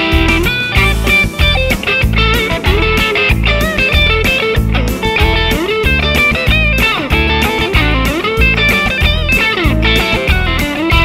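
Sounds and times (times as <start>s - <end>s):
backing beat: 0.0s - 11.0s
electric guitar blues lead: 0.0s - 11.0s.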